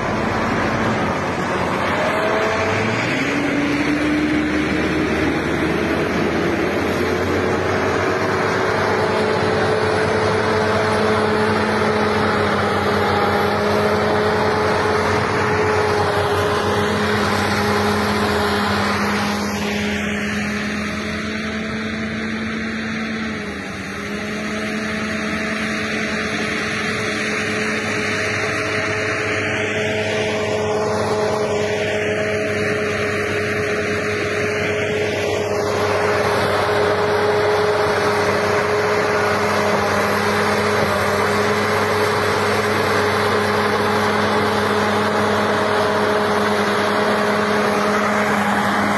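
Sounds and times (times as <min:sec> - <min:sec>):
heavy machinery engine droning: 0:00.0 - 0:48.9.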